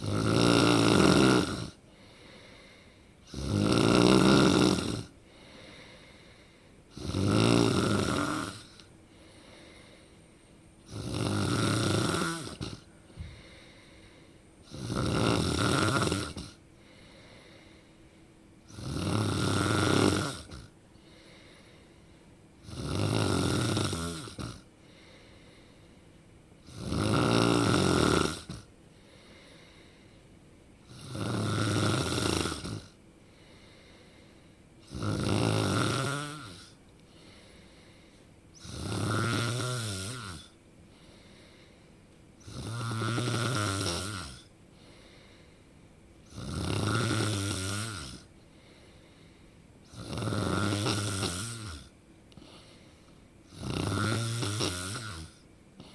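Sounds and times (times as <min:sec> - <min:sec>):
person snoring: 0:00.0 - 0:10.2, 0:10.8 - 0:17.9, 0:18.6 - 0:22.0, 0:22.6 - 0:25.7, 0:26.6 - 0:30.1, 0:30.8 - 0:41.8, 0:42.4 - 0:45.5, 0:46.2 - 0:55.9.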